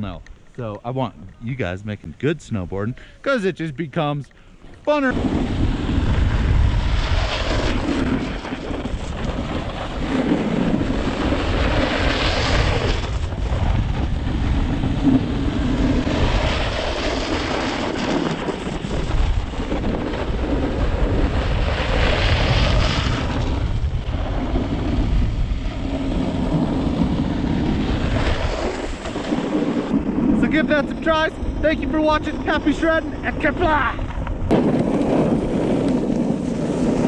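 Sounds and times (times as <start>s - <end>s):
wind buffeting microphone: 4.9s - 37.0s
snowboard edge scraping snow: 5.0s - 33.9s, 34.5s - 37.0s.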